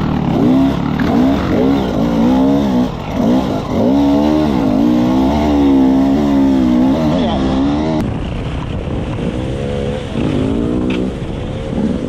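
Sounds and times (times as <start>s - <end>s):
dirt bike engine revving: 0.0s - 8.2s, 9.0s - 12.0s.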